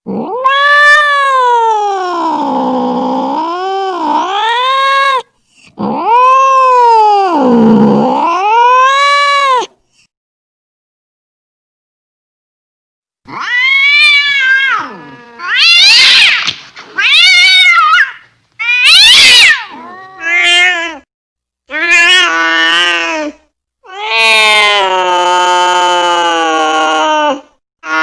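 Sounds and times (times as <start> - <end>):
cat yowling: 0.1 - 9.7, 13.3 - 21.1, 21.7 - 28.0.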